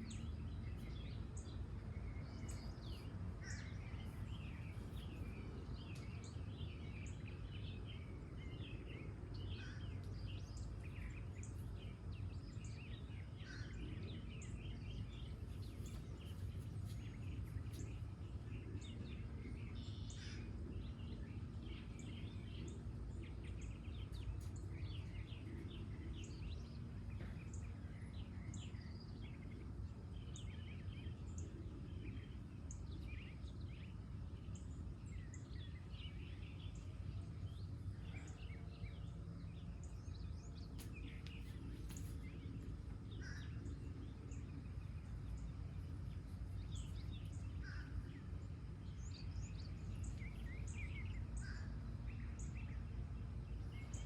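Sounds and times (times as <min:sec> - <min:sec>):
birds chirping: 0:00.0 - 0:54.0
low background rumble: 0:00.0 - 0:54.0.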